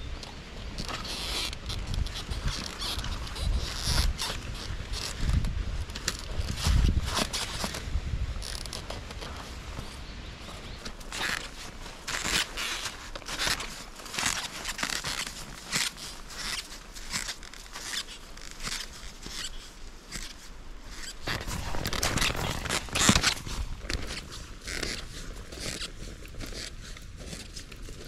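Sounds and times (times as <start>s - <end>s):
footsteps crunching in snow: 0.8s - 28.0s.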